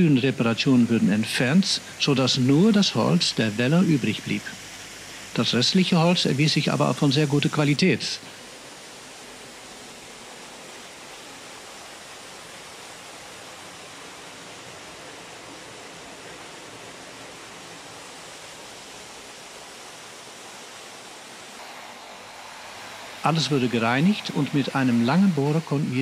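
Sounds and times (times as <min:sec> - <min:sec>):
water rushing through mill race: 0:00.0 - 0:26.0.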